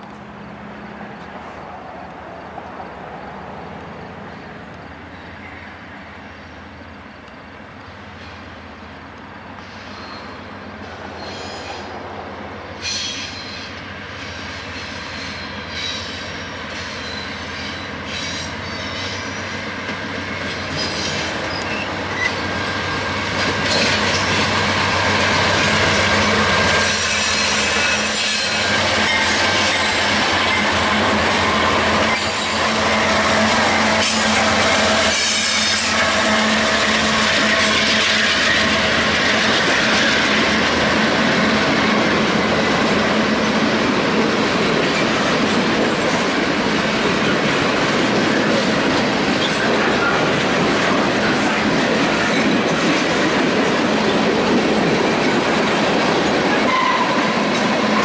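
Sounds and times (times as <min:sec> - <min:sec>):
diesel locomotive engines: 0:00.0 - 0:58.0
steel wheels rumbling and screeching: 0:07.8 - 0:58.0.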